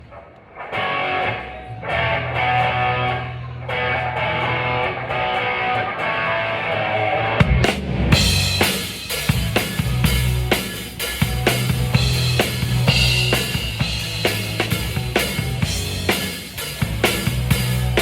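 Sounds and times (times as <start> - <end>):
drums: 0.0 - 18.0
guitar chords: 0.4 - 18.0.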